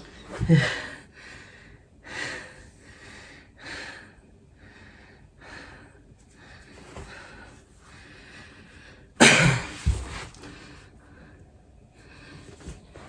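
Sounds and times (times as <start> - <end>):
man breathing heavily: 0.0 - 13.0.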